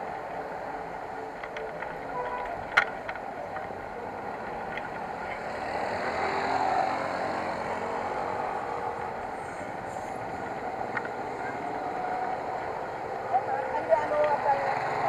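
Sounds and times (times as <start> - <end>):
motorcycle engine: 1.2 - 15.0.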